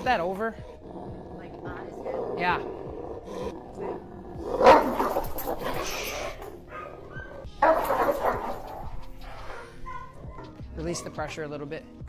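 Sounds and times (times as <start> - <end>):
dog barking and snarling: 0.0 - 11.4.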